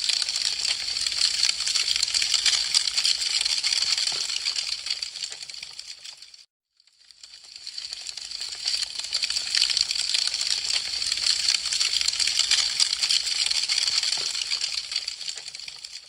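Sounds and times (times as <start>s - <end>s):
burning wood crackling: 0.0s - 6.4s, 7.1s - 16.0s.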